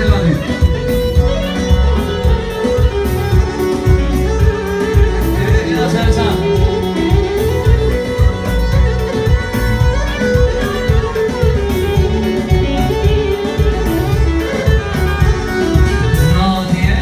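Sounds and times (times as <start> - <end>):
fiddle-like melody: 0.0 - 17.0
guitar: 0.0 - 17.0
steady drum beat: 0.0 - 17.0.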